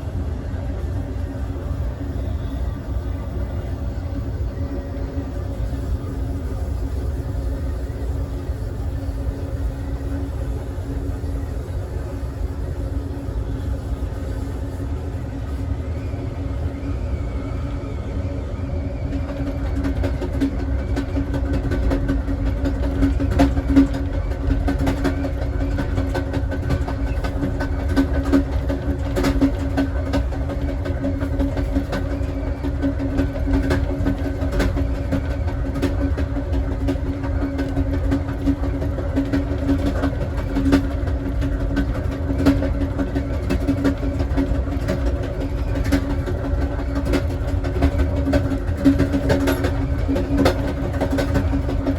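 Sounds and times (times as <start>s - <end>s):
constant hum: 0.0s - 51.9s
train wheels rumbling on rail: 0.0s - 51.9s.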